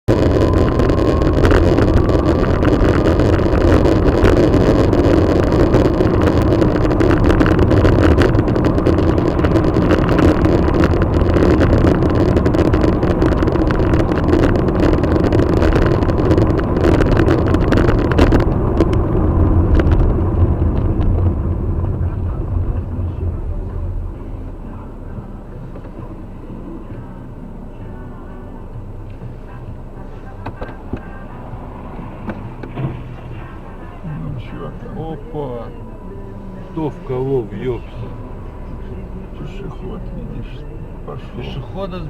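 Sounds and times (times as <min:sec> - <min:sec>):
car road and engine noise: 0:00.0 - 0:42.0.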